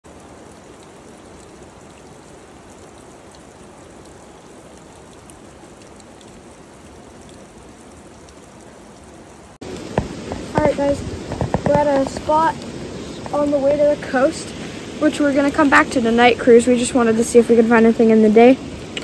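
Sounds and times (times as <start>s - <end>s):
water dripping on rock: 0.1s - 8.7s, 9.6s - 19.0s.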